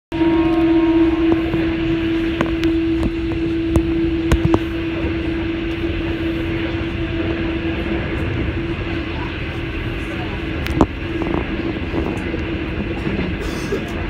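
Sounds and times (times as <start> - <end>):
constant hum: 0.1 - 14.0
train running gear rumble: 0.1 - 14.0.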